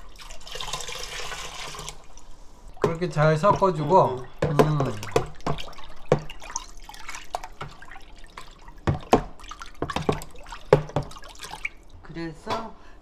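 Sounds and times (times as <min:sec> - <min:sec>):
liquid sloshing and splashing: 0:00.0 - 0:12.0.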